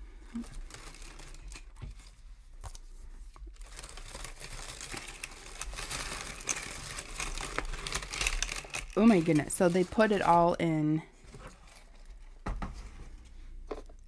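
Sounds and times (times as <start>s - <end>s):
paper packing wrap crinkling: 0.3s - 12.4s.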